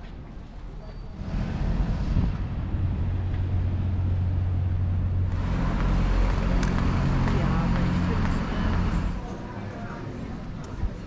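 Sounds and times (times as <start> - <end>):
vehicle engine humming: 0.1 - 11.0.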